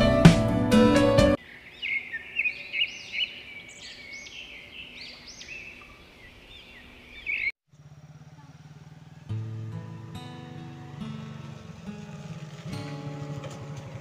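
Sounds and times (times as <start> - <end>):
birds chirping: 1.4 - 14.0.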